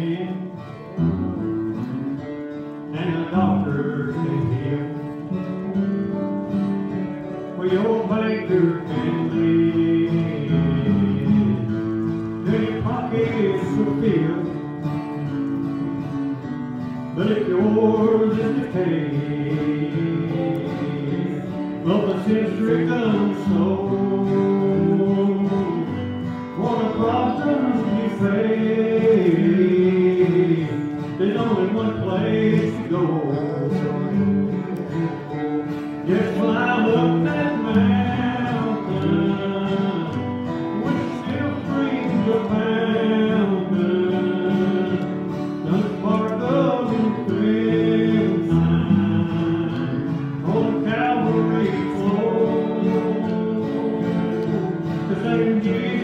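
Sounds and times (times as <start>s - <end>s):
man singing gospel song: 0.0s - 1.7s, 2.8s - 5.8s, 7.2s - 15.2s, 17.1s - 56.0s
second guitar: 0.0s - 56.0s
strummed acoustic guitar: 0.0s - 56.0s.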